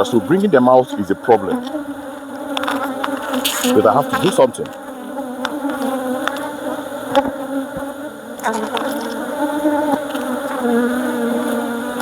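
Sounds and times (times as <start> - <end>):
honeybees buzzing loudly: 0.0 - 12.0.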